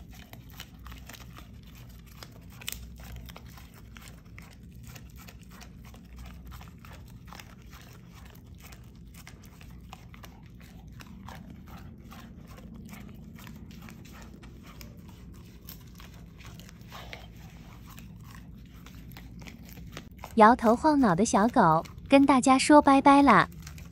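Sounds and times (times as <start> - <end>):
puppy chewing with crunching clicks: 0.0 - 23.9.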